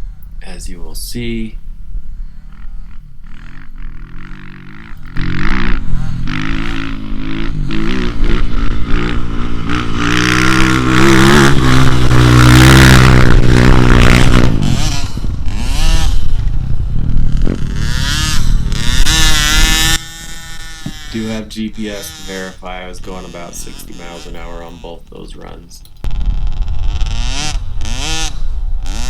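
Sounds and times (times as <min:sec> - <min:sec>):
dirt bike engine passing by: 0:02.2 - 0:25.0, 0:26.1 - 0:29.0.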